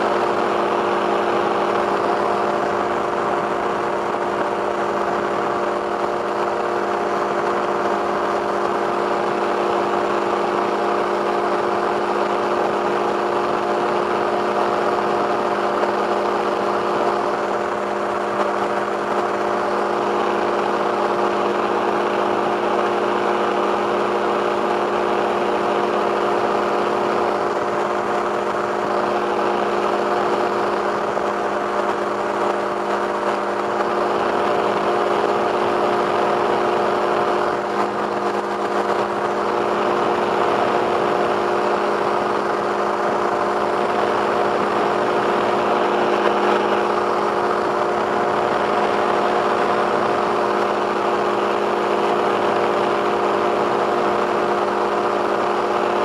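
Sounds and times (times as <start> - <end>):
microlight engine in flight: 0.0 - 56.0.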